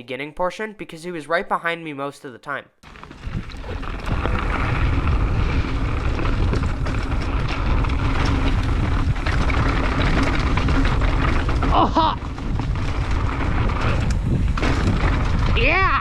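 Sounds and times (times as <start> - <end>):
bike clicks and rattles: 2.8 - 16.0
bike tyres on dirt: 2.8 - 16.0
wind rumble on microphone: 2.9 - 16.0.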